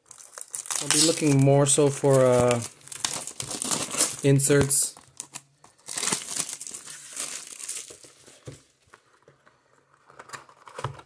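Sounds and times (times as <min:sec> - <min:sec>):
plastic wrap crinkling: 0:00.0 - 0:08.9.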